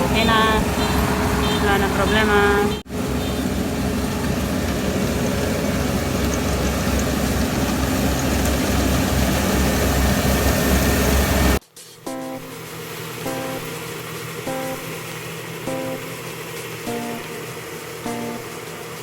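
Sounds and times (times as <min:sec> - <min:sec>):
diesel engine droning: 0:00.0 - 0:11.6, 0:12.5 - 0:19.0.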